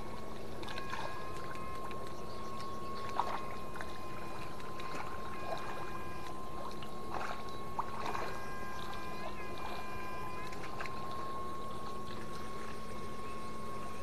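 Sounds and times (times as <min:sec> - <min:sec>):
light water splashes: 0:00.0 - 0:12.9
high-pitched electric whine: 0:00.0 - 0:14.0.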